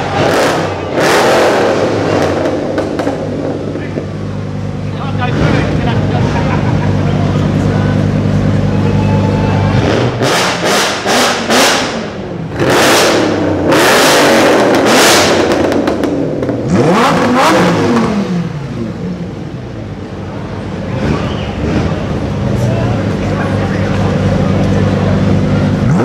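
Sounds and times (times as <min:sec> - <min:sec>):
sports car engine idling and revving: 0:00.0 - 0:26.0.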